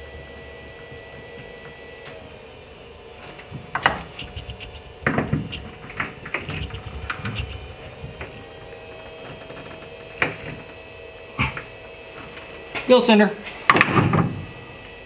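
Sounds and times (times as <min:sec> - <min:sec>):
thin steady hum: 0:00.0 - 0:12.8.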